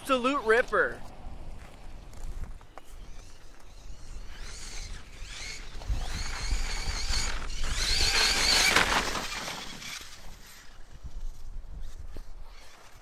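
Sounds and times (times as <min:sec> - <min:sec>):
electric motor whining: 0:01.0 - 0:13.0.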